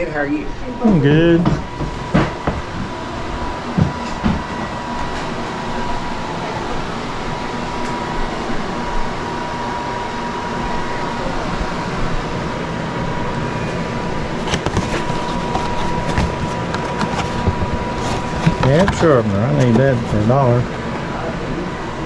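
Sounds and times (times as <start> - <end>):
fan-like appliance hum: 0.0 - 22.0.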